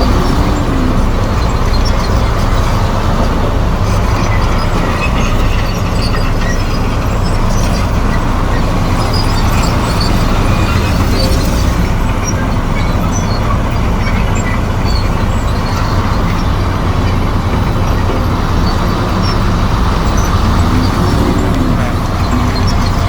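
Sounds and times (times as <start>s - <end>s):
bulldozer diesel engine drone: 0.0s - 23.0s.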